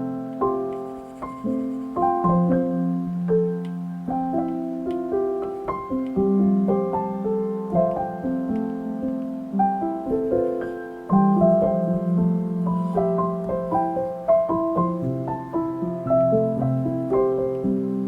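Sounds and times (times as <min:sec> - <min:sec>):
soft slow piano piece: 0:00.0 - 0:18.0.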